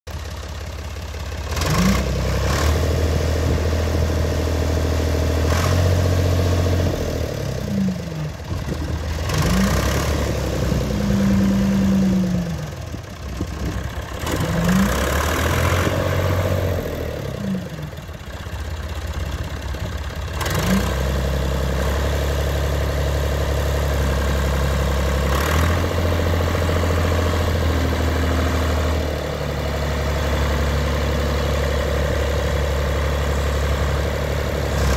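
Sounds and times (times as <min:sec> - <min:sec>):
diesel engine revving: 0:00.1 - 0:34.9.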